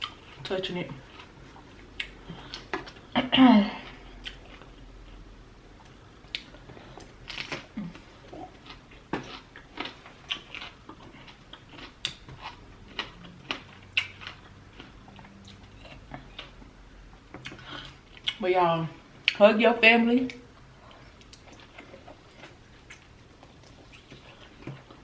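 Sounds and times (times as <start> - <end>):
lobster meat being chewed: 0.0 - 3.1, 4.1 - 18.4, 20.5 - 25.0.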